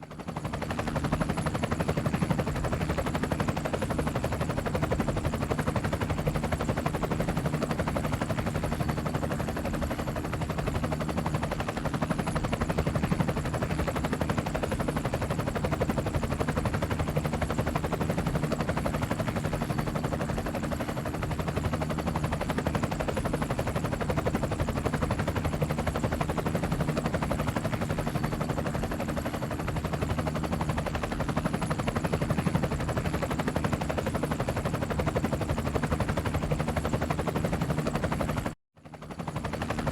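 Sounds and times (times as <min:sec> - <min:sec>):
helicopter engine drone: 0:00.0 - 0:39.9
helicopter rotor blades chopping: 0:00.0 - 0:39.9.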